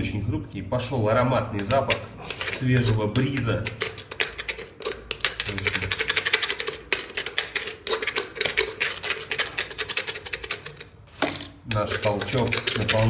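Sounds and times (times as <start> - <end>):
metal tool scraping caulking: 1.6 - 13.0.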